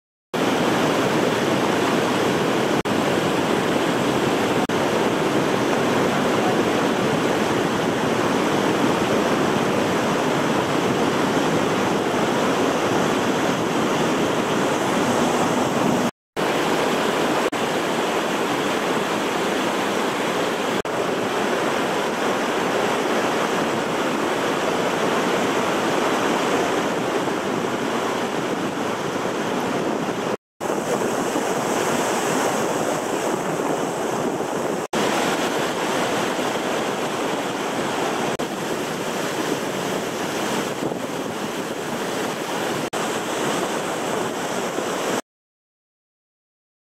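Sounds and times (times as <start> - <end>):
rapids rushing: 0.4 - 45.2
waterfall rushing: 0.4 - 45.2.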